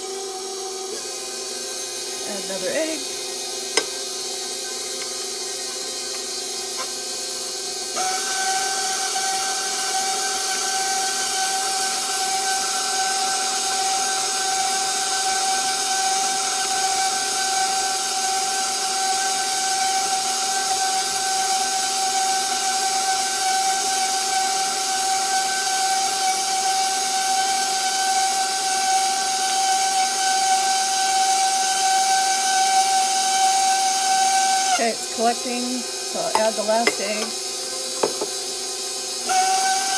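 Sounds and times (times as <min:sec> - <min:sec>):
stand mixer motor whining: 0:00.0 - 0:39.9.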